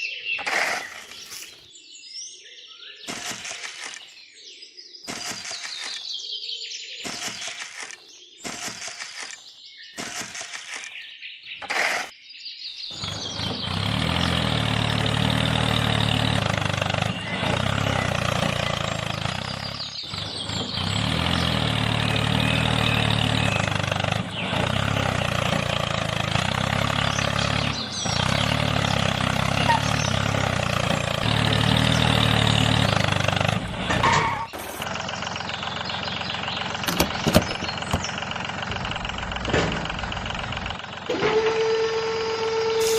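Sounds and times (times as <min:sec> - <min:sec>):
birds chirping: 0:00.0 - 0:41.1
small motor chugging: 0:03.1 - 0:04.0, 0:05.1 - 0:06.0, 0:07.0 - 0:09.4, 0:10.0 - 0:10.9, 0:12.9 - 0:42.9.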